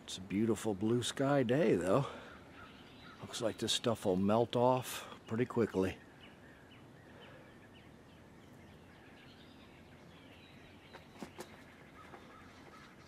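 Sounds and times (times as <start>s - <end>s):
faint bird chirps: 1.4s - 13.0s.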